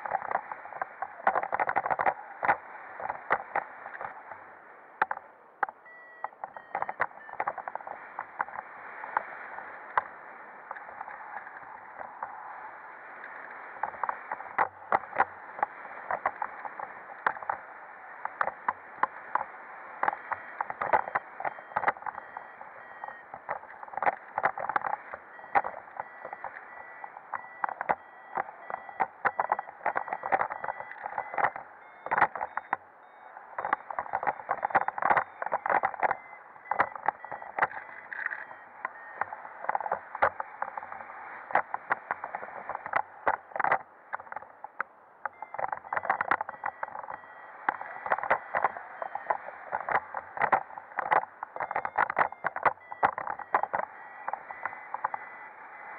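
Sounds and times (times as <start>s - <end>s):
crackling wind gusts: 0.0s - 55.9s.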